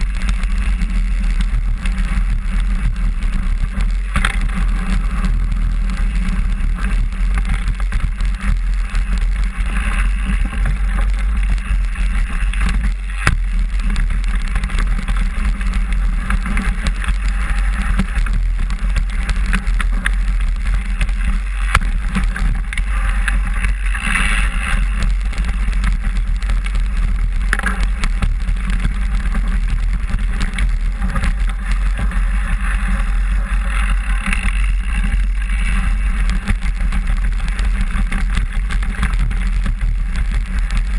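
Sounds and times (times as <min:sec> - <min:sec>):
tyre frame and wind rumble: 0:00.0 - 0:40.9.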